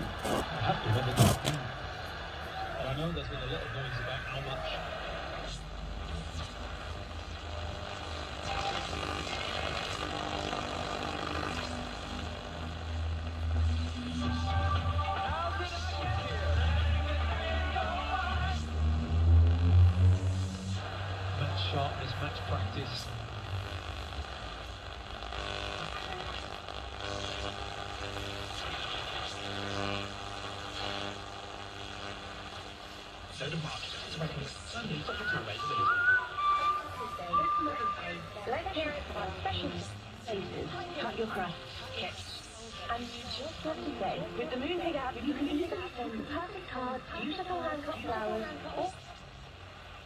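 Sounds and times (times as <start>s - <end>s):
radio static hiss: 0.0s - 50.0s.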